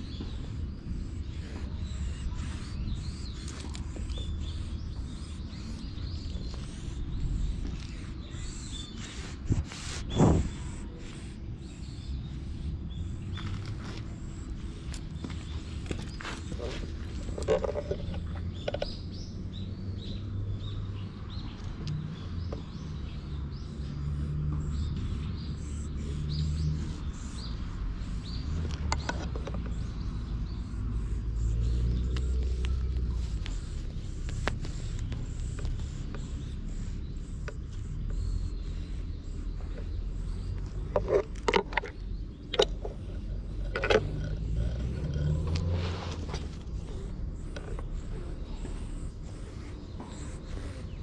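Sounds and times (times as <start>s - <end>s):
small birds chirping: 0.0s - 51.0s
steady low rumble: 0.0s - 51.0s.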